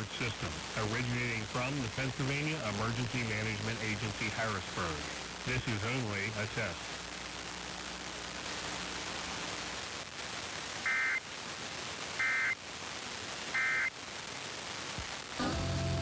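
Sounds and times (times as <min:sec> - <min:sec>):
radio hiss: 0:00.0 - 0:16.0
radio station music: 0:00.0 - 0:16.0.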